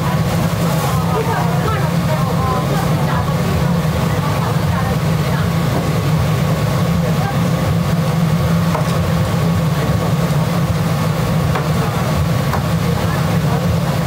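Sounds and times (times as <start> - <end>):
kitchen equipment drone: 0.0 - 14.0.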